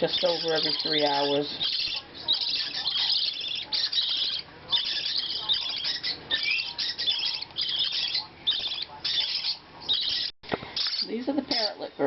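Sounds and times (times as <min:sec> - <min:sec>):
bird chicks begging calls: 0:00.0 - 0:12.0.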